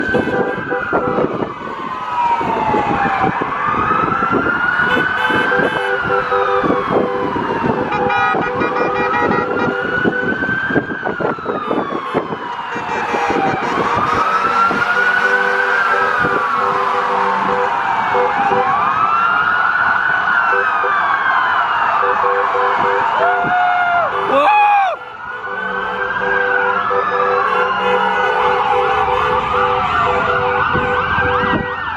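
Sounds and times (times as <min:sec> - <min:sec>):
emergency vehicle sirens wailing: 0:00.0 - 0:31.9
traffic rumble: 0:00.0 - 0:31.9.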